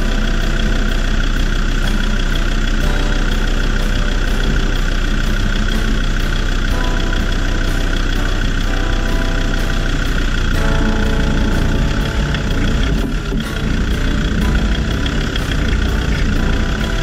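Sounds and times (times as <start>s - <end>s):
background music: 0.0s - 17.0s
car engine idling: 0.0s - 17.0s.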